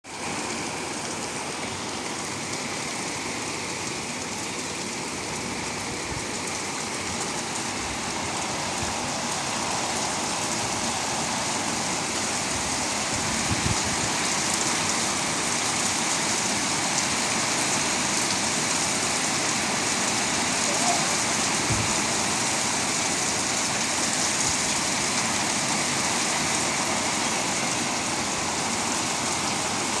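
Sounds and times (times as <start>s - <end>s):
rain falling: 0.1s - 30.0s.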